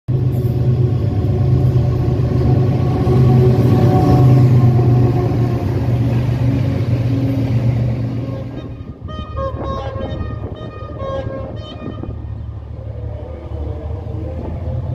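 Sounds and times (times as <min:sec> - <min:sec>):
diesel locomotive engine rumbling: 0:00.1 - 0:14.9.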